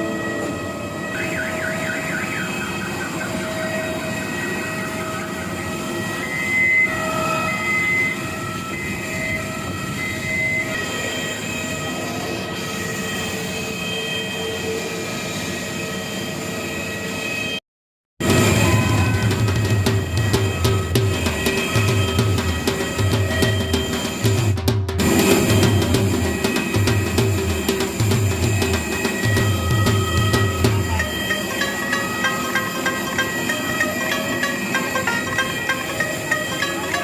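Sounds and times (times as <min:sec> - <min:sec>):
steady whining tones: 0:00.0 - 0:17.6, 0:18.2 - 0:37.0.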